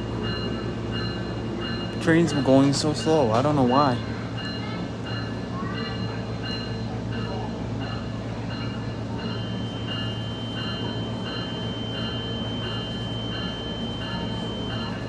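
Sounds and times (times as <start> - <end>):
train low hum: 0.0 - 15.0
steady high tone: 0.2 - 15.0.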